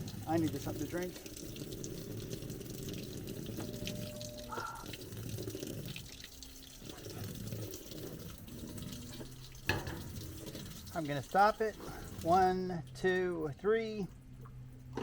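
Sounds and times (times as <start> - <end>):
water running and splashing: 0.0 - 13.6
faint steady tones: 0.0 - 15.0.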